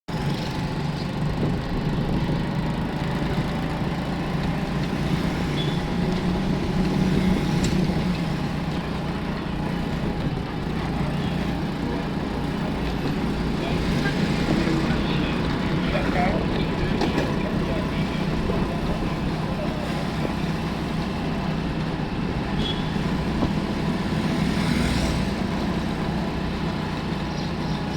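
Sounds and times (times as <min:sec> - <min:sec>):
vehicle engines running: 0:00.1 - 0:27.9.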